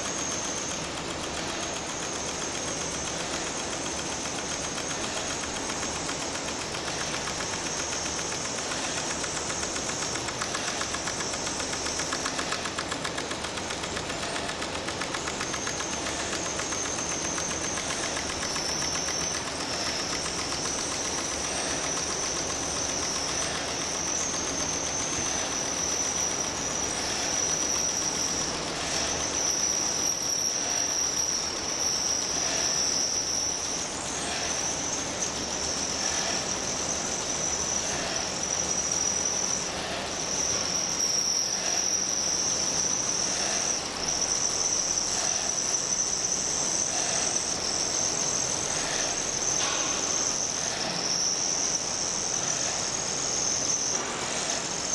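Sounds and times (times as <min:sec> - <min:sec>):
hiss: 0:00.0 - 0:54.9
motor high-pitched whine: 0:00.0 - 0:54.9.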